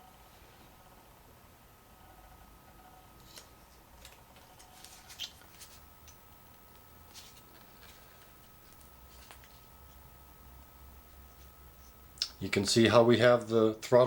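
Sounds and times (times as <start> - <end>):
faint high hum: 0.0 - 14.0.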